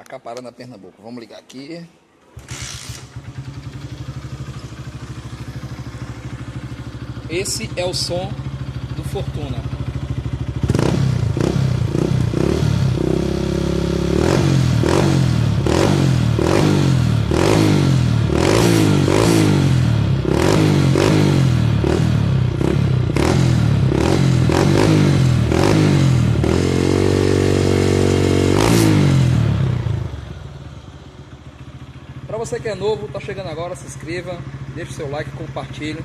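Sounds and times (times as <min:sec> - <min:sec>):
motorcycle throttle blips: 0:02.3 - 0:36.0.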